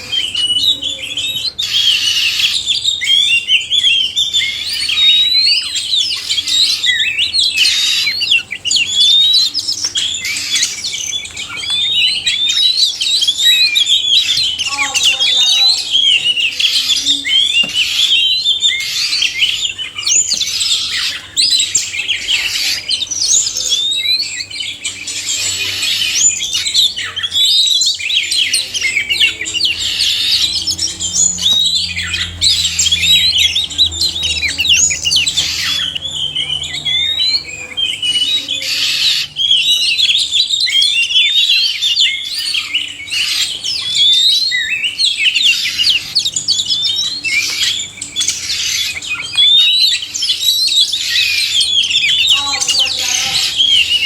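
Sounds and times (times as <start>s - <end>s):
songbirds singing and calling: 0.0s - 54.0s.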